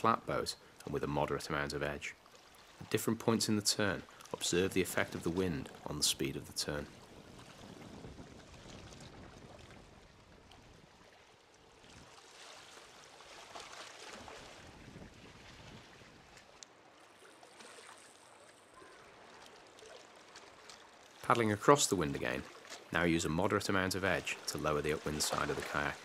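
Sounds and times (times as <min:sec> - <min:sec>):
small waves lapping: 0:00.0 - 0:26.0
paddle splashing: 0:02.0 - 0:26.0.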